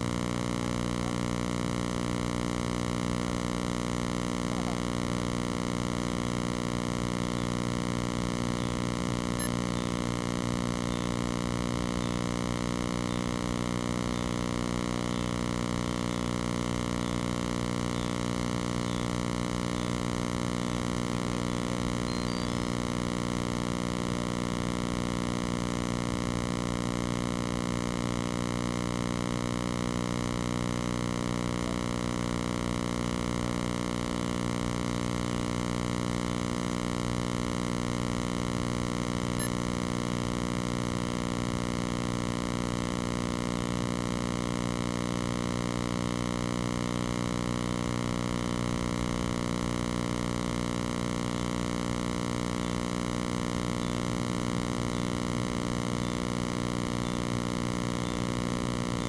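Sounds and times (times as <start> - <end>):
steady electronic hum: 0.0 - 59.0.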